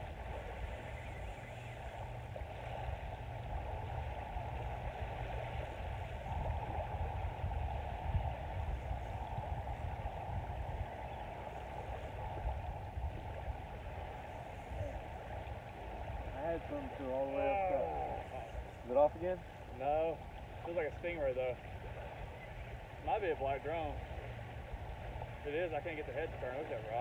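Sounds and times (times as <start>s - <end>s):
surf washing on sand: 0.0s - 27.0s
wind rumble on microphone: 0.0s - 27.0s.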